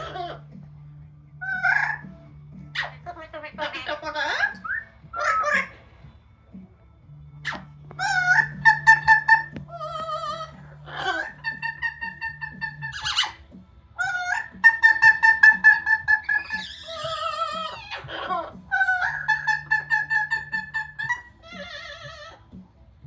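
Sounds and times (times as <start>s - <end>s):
parrot calling loudly: 0.0s - 0.6s, 1.4s - 5.9s, 7.4s - 22.6s
parrot squawks: 0.0s - 0.6s, 1.4s - 6.0s, 7.4s - 22.6s.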